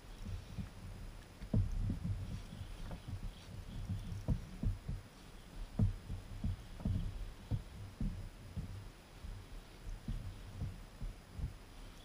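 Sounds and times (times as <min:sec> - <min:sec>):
waves slapping kayak hull: 0:00.0 - 0:12.0.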